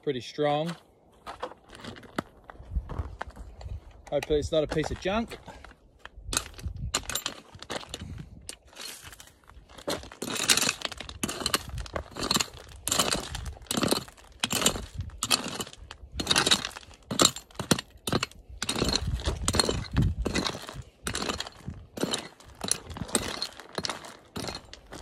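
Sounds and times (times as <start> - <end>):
pick crunching into stony ground: 4.2 - 25.0.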